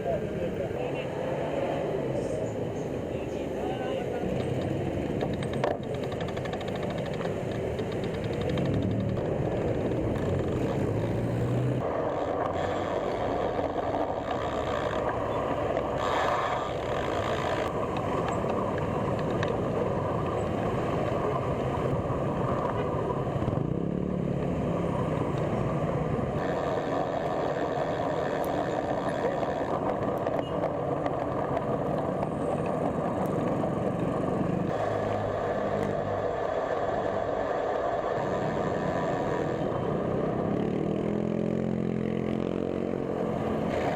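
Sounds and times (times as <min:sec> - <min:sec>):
road traffic: 0:00.0 - 0:43.9.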